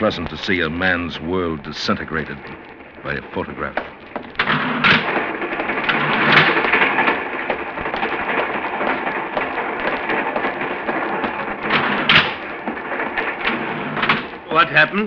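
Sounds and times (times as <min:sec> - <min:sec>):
train rumbling rattle: 0:00.0 - 0:15.0.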